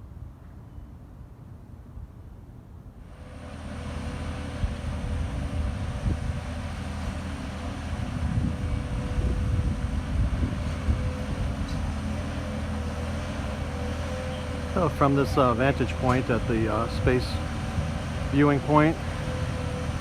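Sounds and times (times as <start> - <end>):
heavy vehicle engine rumble: 3.0 - 20.0.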